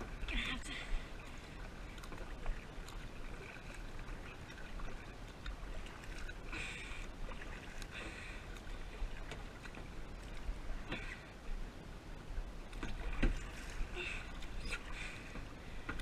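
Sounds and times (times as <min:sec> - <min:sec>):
paddle splashing water: 0:00.0 - 0:16.0.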